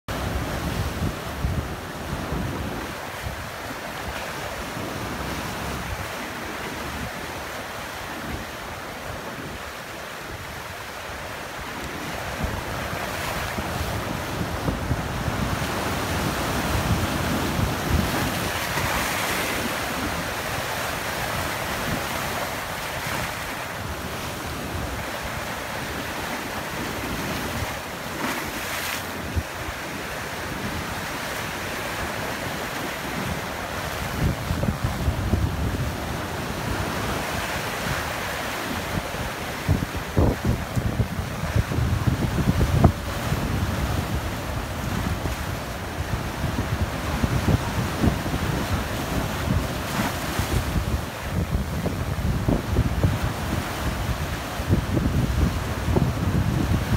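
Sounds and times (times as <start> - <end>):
waves breaking on rocks: 0.1 - 56.9.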